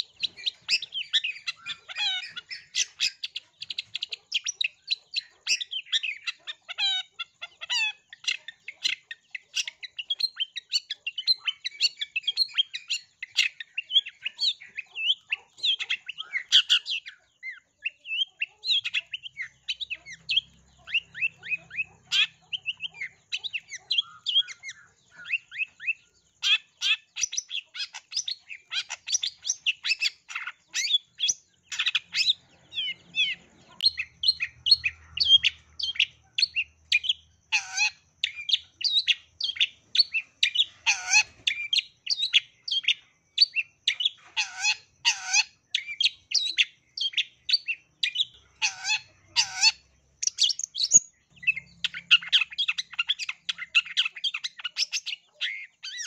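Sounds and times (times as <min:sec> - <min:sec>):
bird chirps and trills: 0:00.0 - 0:56.0.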